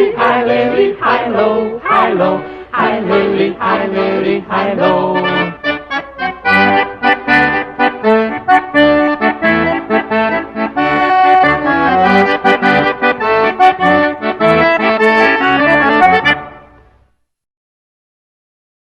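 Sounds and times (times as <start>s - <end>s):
instrumental waltz music: 0.0s - 17.0s.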